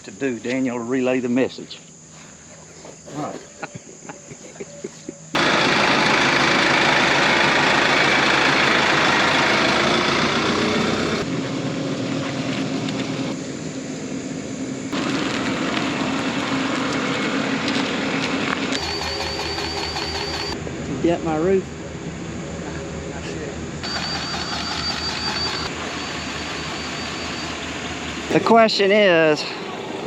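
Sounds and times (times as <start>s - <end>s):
tractor engine running: 5.3s - 30.0s.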